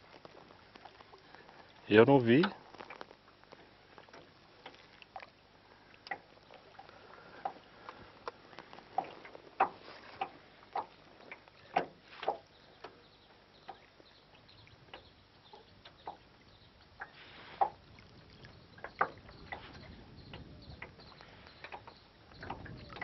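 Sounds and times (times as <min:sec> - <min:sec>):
waves lapping against boat hull: 0:00.0 - 0:23.0.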